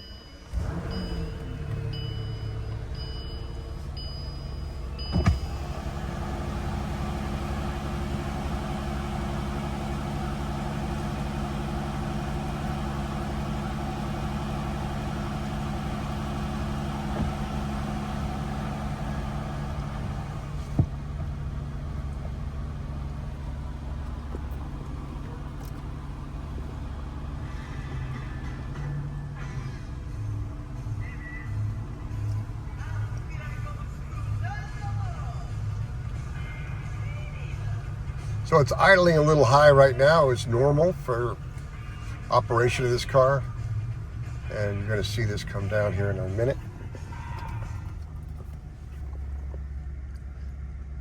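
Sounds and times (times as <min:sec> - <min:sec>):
car engine starting: 0:00.0 - 0:51.0
car engine fast idle: 0:00.4 - 0:51.0.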